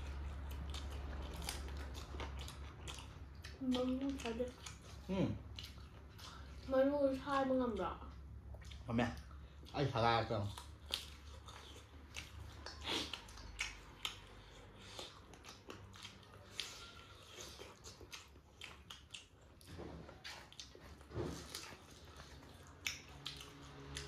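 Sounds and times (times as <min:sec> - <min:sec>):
chewing: 0:00.0 - 0:24.0.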